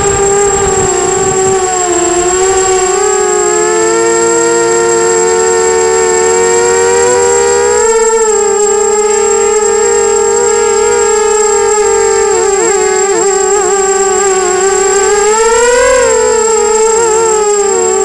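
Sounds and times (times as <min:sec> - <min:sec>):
quadcopter motors whining: 0:00.0 - 0:18.0
thin steady high tone: 0:00.0 - 0:18.0
wind rumble on microphone: 0:00.0 - 0:18.0.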